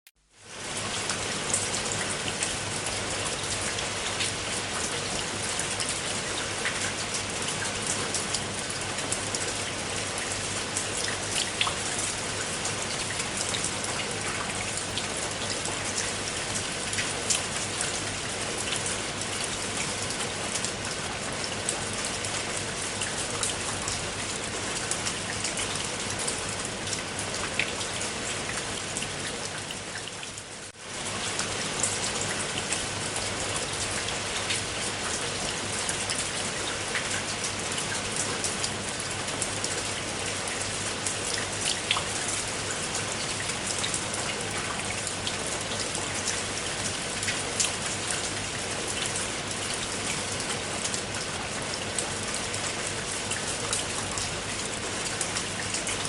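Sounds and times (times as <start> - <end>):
rain falling: 0.2 - 56.0
raindrops ticking on a surface: 0.2 - 56.0.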